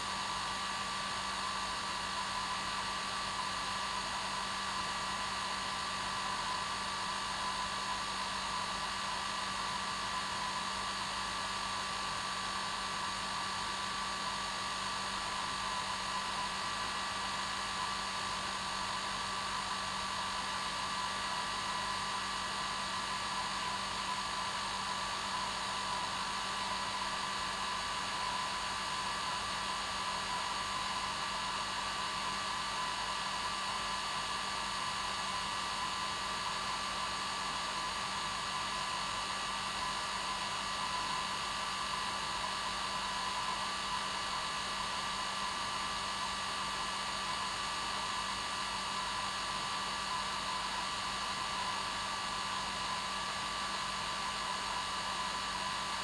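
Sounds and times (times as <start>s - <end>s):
hair dryer running: 1.1s - 56.0s.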